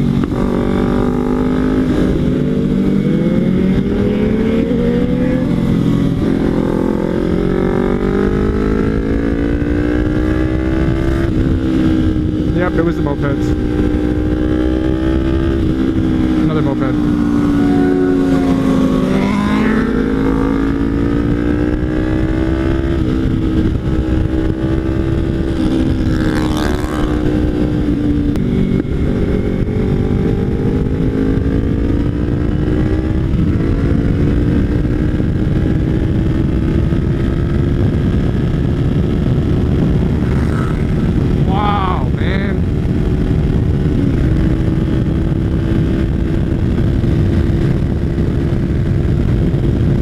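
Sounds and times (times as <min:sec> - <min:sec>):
motorcycle engine running: 0:00.0 - 0:50.0
wind rush on microphone: 0:00.0 - 0:50.0.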